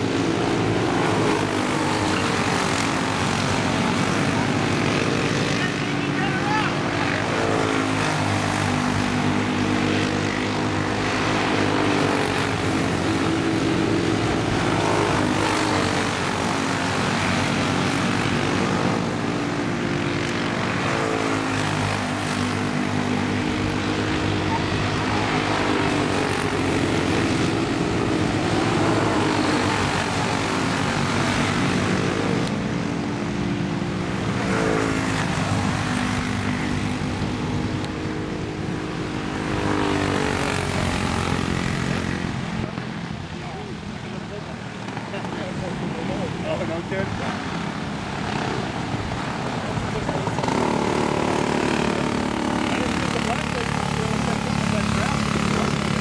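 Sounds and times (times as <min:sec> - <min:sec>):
race car engines buzzing: 0:00.0 - 0:56.0.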